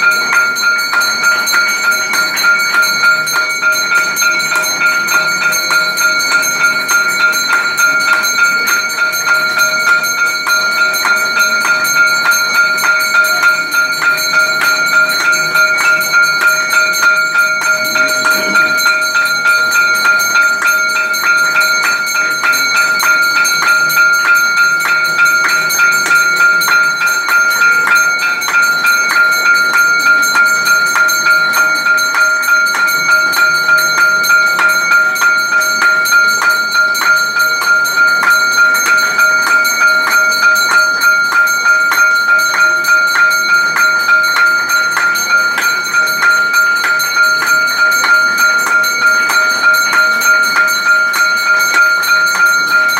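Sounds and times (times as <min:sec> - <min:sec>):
bell rung fast: 0:00.0 - 0:52.9.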